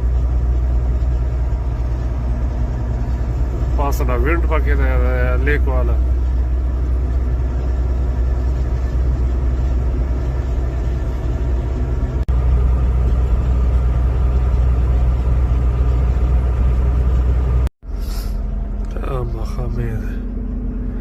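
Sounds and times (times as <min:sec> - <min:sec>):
road rumble: 0:00.0 - 0:21.0
truck engine drone: 0:00.0 - 0:21.0.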